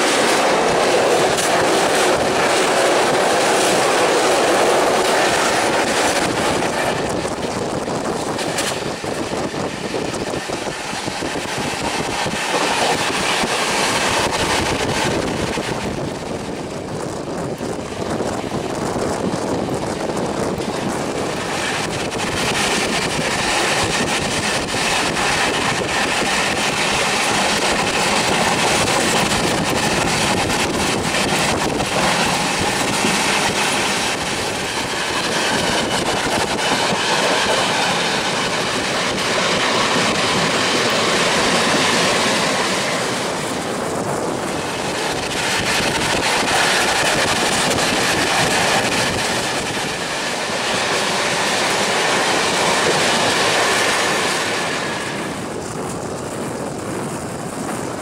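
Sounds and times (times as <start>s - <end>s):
rush of wheels and wind: 0.0s - 58.0s
wheels clacking over rail joints: 0.0s - 58.0s.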